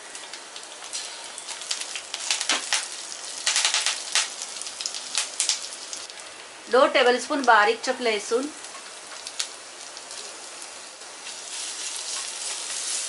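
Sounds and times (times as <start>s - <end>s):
leaves spluttering in hot oil: 0.0s - 13.0s.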